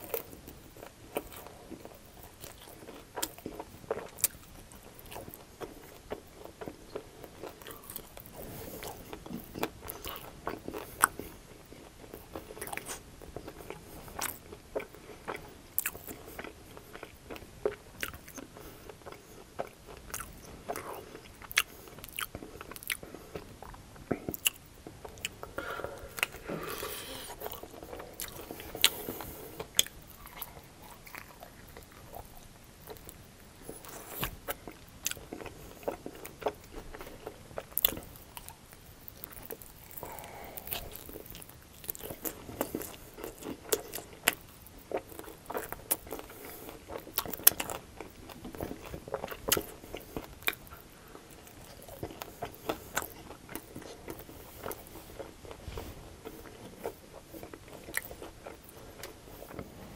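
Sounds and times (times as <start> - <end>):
crunchy chicken wings being chewed: 0.0 - 59.9.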